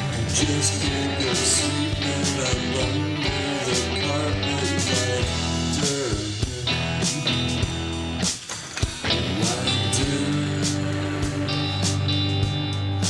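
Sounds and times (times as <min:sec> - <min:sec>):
rock song with guitar: 0:00.0 - 0:13.0.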